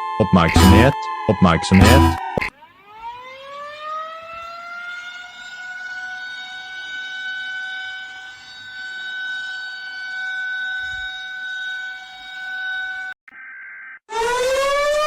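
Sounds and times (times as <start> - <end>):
steady warning siren: 0.0 - 13.2, 14.1 - 15.0.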